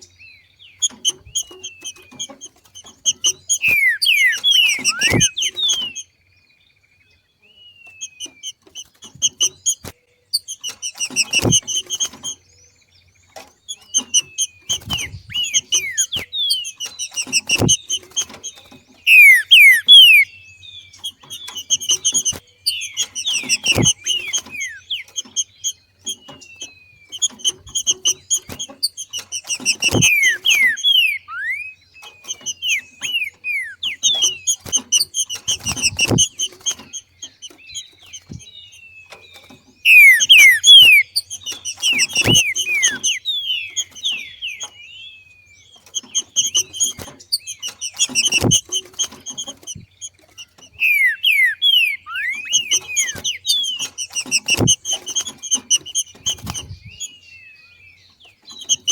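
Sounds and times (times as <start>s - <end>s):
bird whistling downward notes: 0.8s - 6.1s, 13.7s - 57.9s.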